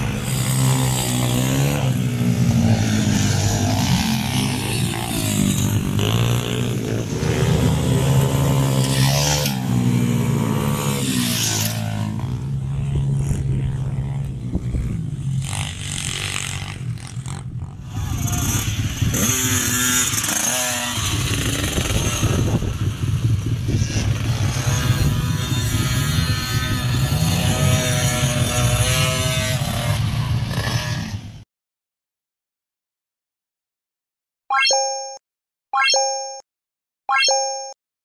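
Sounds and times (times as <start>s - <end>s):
dirt bike engines revving: 0.0s - 31.3s.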